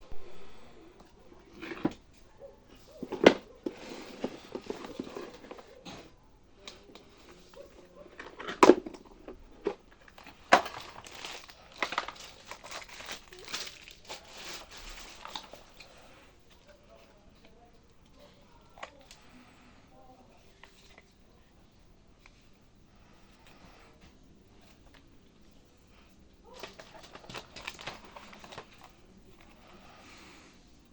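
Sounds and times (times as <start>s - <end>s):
crinkling and rustling: 1.0s - 30.9s.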